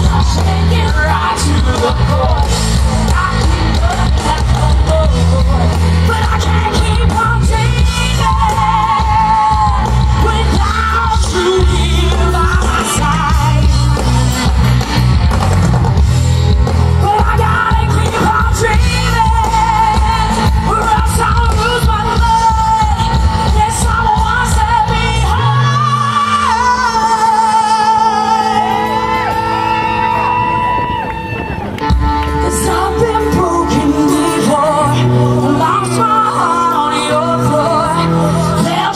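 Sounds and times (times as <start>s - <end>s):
woman singing: 0.0s - 14.4s, 17.0s - 29.4s, 32.3s - 38.9s
live rock band playing: 0.0s - 38.9s.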